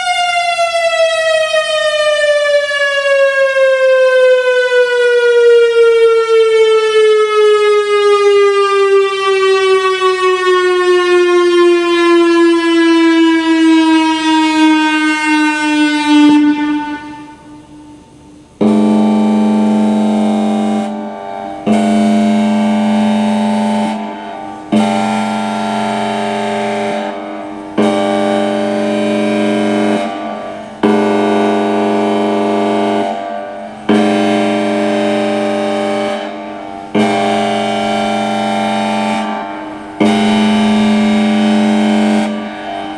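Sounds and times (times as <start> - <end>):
siren horn-like chord blasts: 0.0 - 42.9
warning siren sliding down: 0.0 - 42.9.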